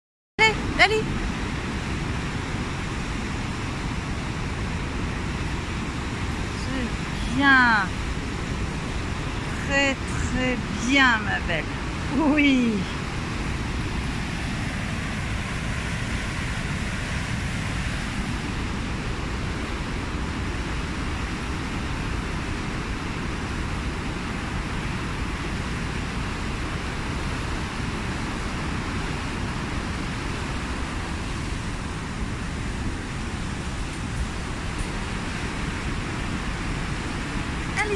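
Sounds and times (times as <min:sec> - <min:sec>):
white water rushing down channel: 0:00.4 - 0:37.9.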